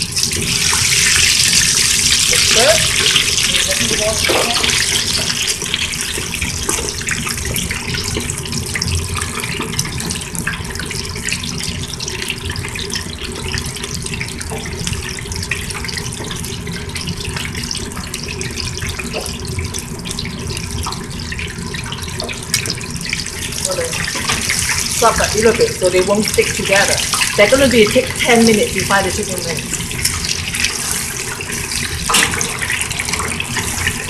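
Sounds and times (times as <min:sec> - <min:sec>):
chicken deep-frying in oil: 0:00.0 - 0:34.0.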